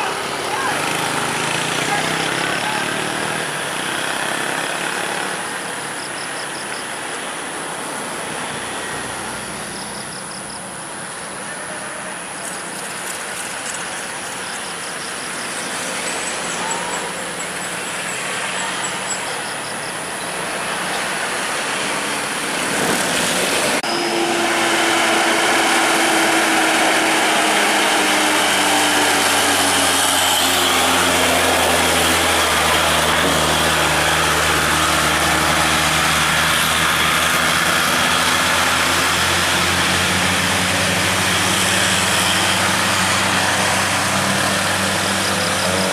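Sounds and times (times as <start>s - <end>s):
diesel truck engine: 0.0s - 11.3s, 12.0s - 45.9s
engine whine: 0.0s - 45.9s.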